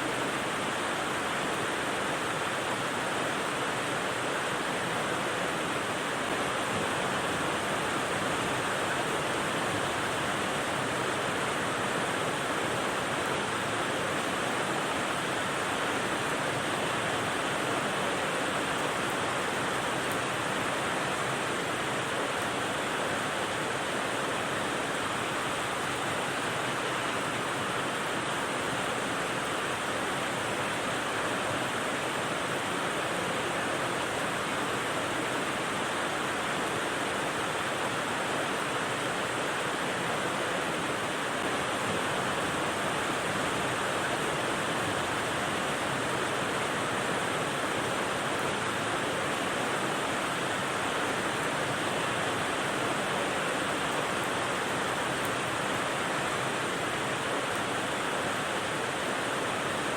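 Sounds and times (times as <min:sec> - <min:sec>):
steady rain-like white noise: 0:00.0 - 0:59.9.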